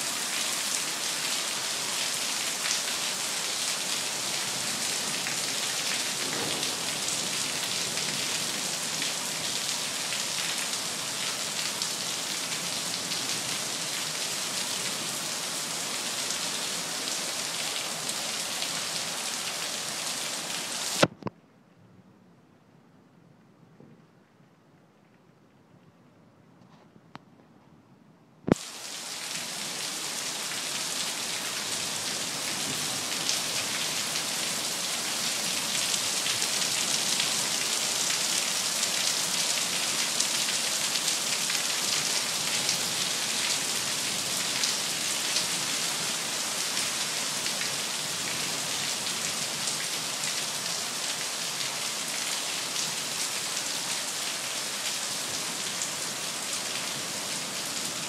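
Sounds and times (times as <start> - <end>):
rain falling: 0.0 - 21.3, 28.5 - 58.0.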